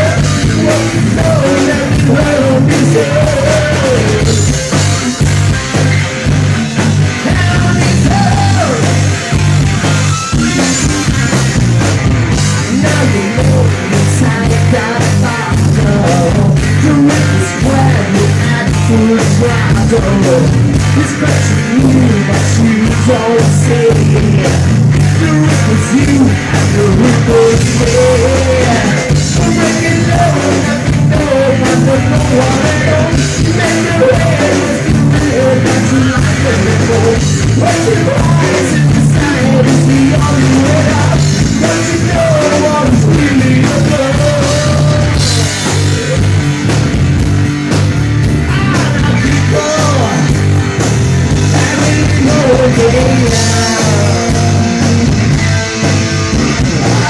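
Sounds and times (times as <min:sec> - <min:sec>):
distorted electric guitar: 0:00.0 - 0:57.0
drum kit: 0:00.0 - 0:57.0
electric bass: 0:00.0 - 0:57.0.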